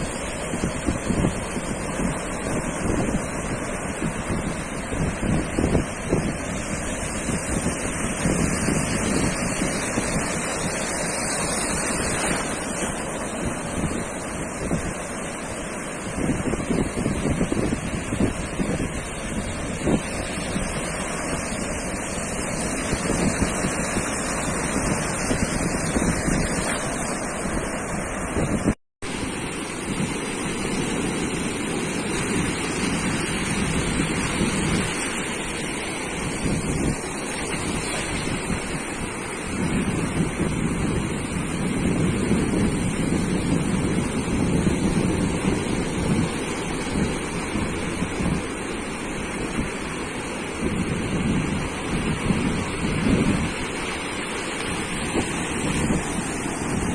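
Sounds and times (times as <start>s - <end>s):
surf washing onto sandy beach: 0.0s - 56.9s
wind rumbling on microphone: 0.0s - 56.9s.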